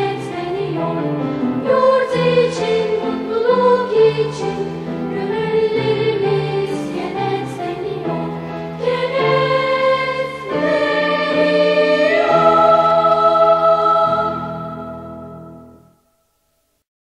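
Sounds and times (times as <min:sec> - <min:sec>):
choir singing a march: 0:00.0 - 0:15.6.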